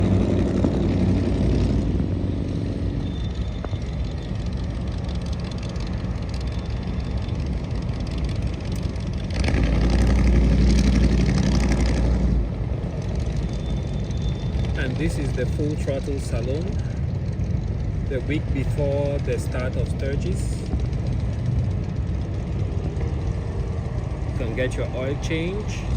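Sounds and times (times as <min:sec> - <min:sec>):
motorcycle engines running: 0:00.0 - 0:25.9.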